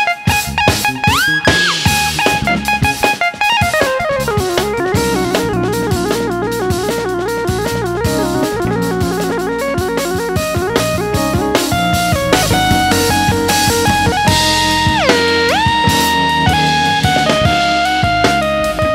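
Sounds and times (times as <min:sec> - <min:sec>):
drum kit: 0:00.0 - 0:18.9
electric bass: 0:00.3 - 0:18.9
synthesizer lead: 0:01.1 - 0:18.6.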